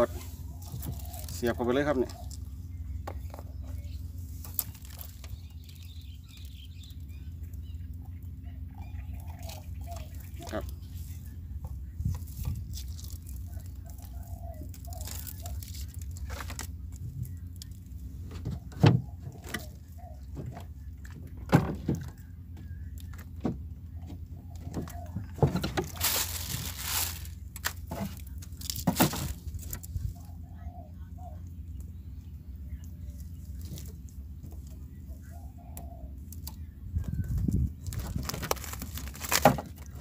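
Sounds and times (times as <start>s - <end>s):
low wind rumble: 0.0s - 40.0s.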